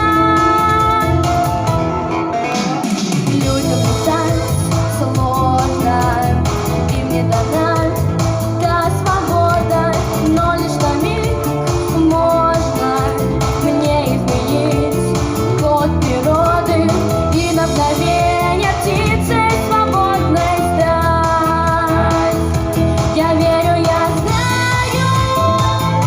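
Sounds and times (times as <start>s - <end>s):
woman singing: 0.0s - 1.7s, 3.2s - 26.0s
backing track with steady beat: 0.0s - 26.0s.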